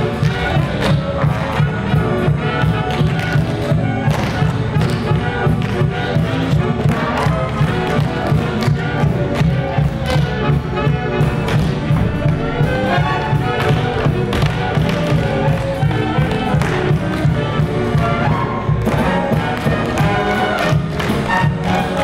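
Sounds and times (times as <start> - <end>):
brassy show tune music: 0.0 - 22.0
tap shoes striking stage floor: 0.0 - 22.0.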